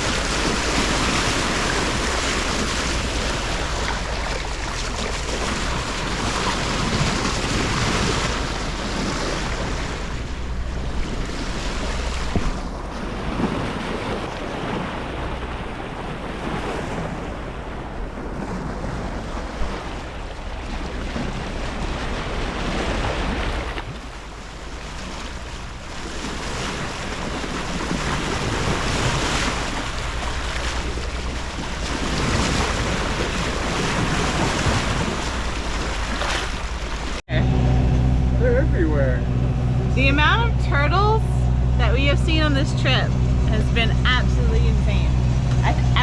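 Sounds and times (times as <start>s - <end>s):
boat motor droning: 0.0s - 46.0s
water washing along hull: 0.0s - 46.0s
wind buffeting microphone: 0.0s - 46.0s.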